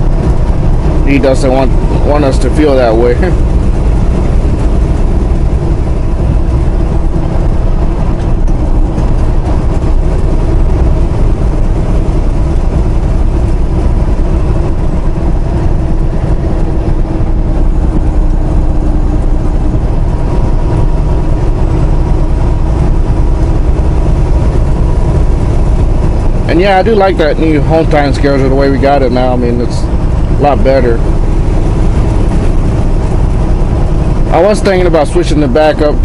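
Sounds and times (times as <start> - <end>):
low road rumble: 0.0 - 36.0
truck engine drone: 0.0 - 36.0.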